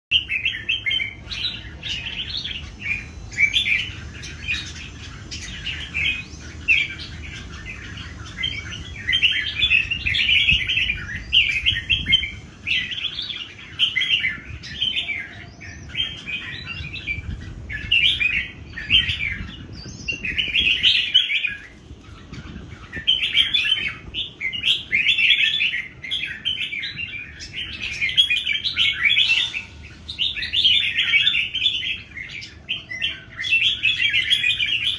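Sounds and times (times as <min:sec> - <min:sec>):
birds singing warbling phrases: 0:00.1 - 0:34.9.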